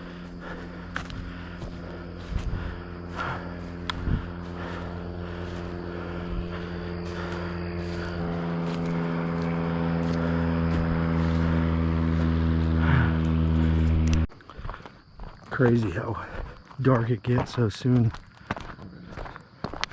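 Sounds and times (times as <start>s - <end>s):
engine droning: 0.0s - 16.5s.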